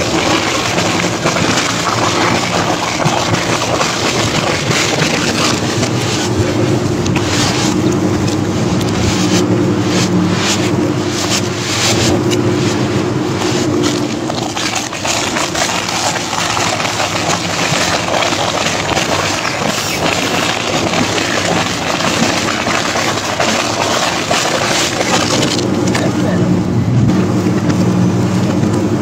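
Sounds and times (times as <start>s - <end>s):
shredder grinding tyres: 0.0s - 26.4s.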